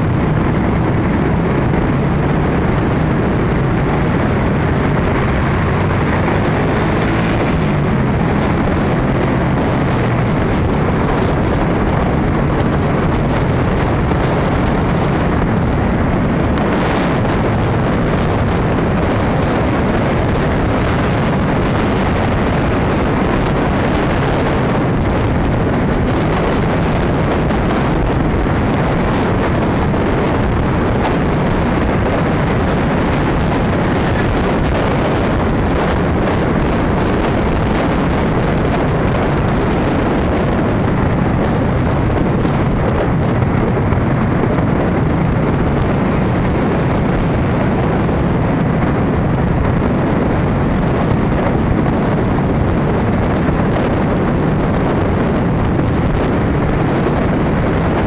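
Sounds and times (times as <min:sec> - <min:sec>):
traffic engine and road noise: 0:00.0 - 0:58.0
wind buffeting microphone: 0:00.0 - 0:58.0.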